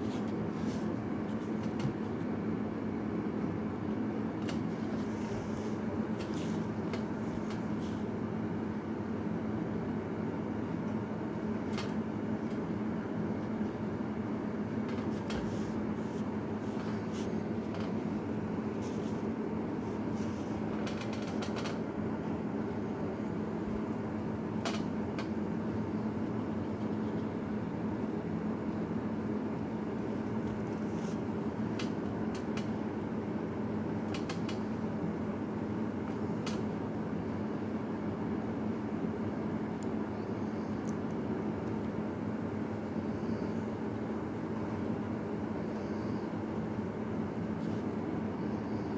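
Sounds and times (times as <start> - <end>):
steady droning hum: 0.0 - 48.9.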